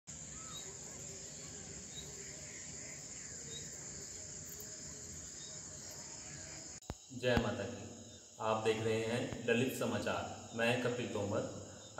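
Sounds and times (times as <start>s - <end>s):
insects chirring: 0.1s - 11.9s.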